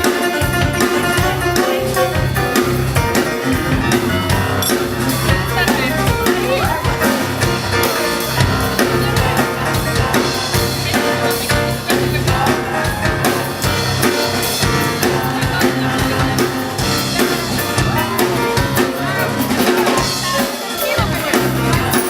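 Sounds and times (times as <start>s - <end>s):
jazz combo playing: 0.0s - 22.0s.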